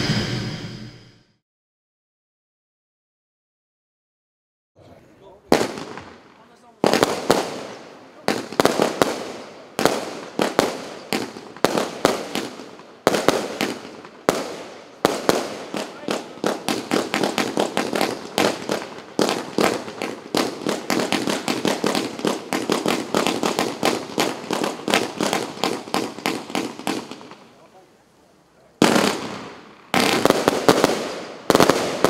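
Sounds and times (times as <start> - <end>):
firework cake firing: 5.4 - 28.0, 28.8 - 32.0.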